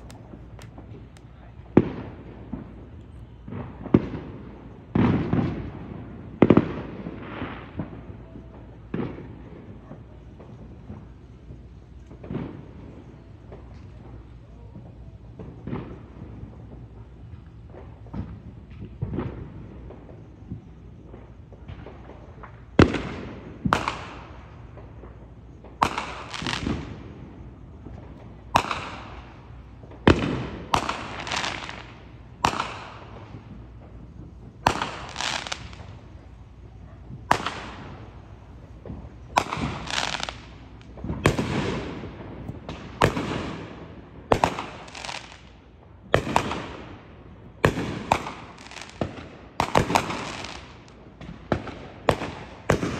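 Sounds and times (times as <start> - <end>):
fireworks bangs echoing: 0.0 - 52.9.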